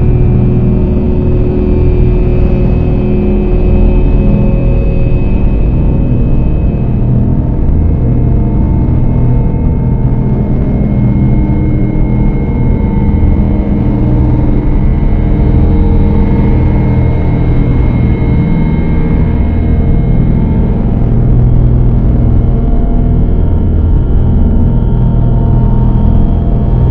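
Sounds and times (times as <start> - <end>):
dark ambient drone music: 0.0 - 26.9.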